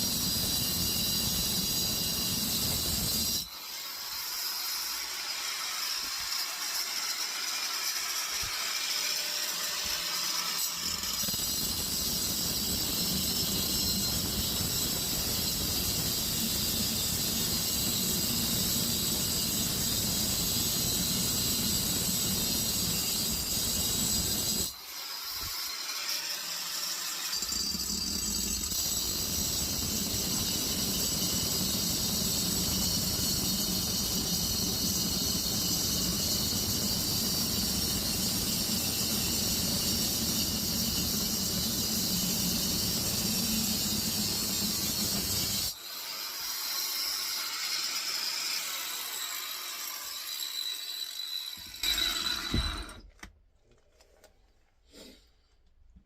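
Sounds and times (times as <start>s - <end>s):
angle grinder cutting steel: 0.0s - 53.0s.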